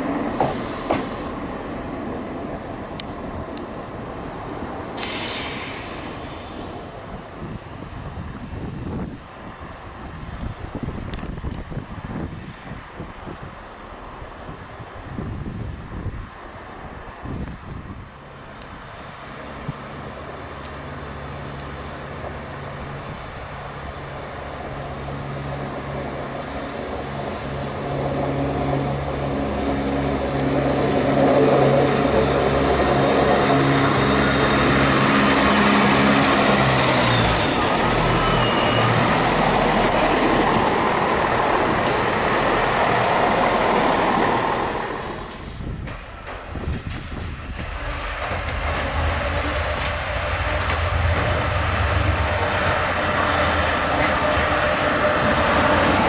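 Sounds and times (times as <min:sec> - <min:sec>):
diesel train engine: 0:00.0 - 0:56.0
rush of passing train: 0:00.0 - 0:56.0.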